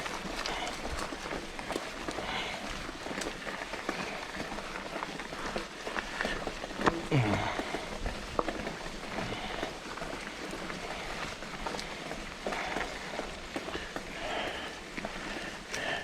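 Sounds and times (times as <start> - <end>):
bike clicks and rattles: 0.0 - 16.0
bike tyres crunching over dirt: 0.0 - 16.0.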